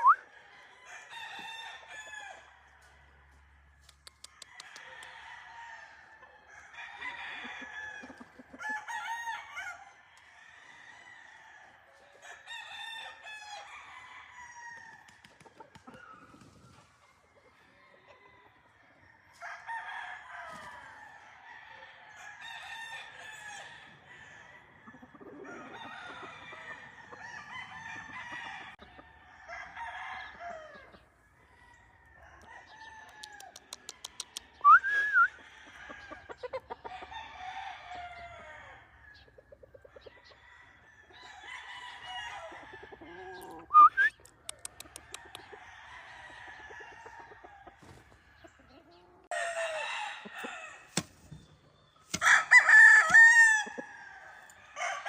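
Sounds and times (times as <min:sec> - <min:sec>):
chicken clucking: 0:00.0 - 0:01.6, 0:02.7 - 0:10.8, 0:15.0 - 0:19.6, 0:21.7 - 0:55.0
roosters crowing: 0:00.0 - 0:55.0.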